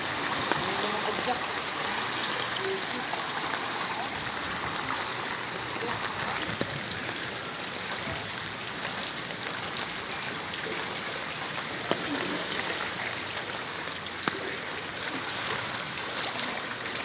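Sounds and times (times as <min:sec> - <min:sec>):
wading through floodwater: 0:00.0 - 0:17.0.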